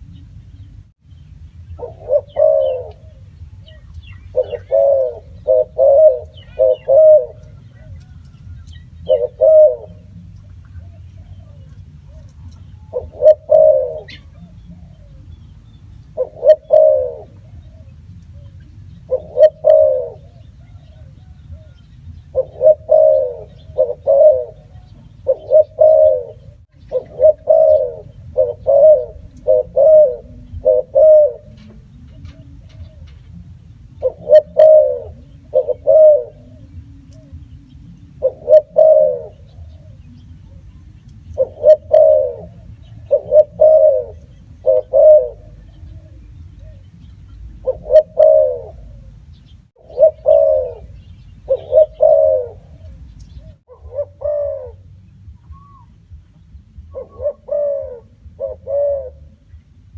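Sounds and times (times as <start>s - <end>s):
dove cooing: 1.7s - 59.9s.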